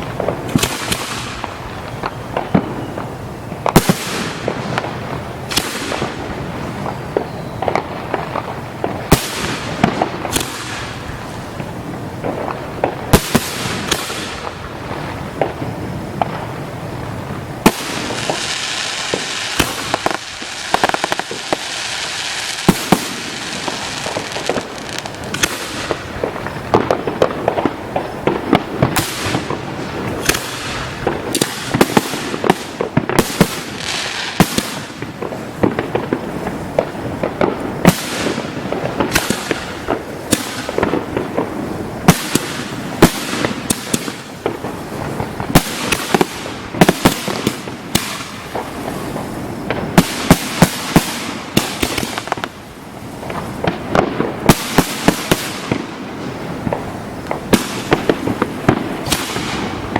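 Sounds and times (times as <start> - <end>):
fireworks banging: 0.0 - 59.9.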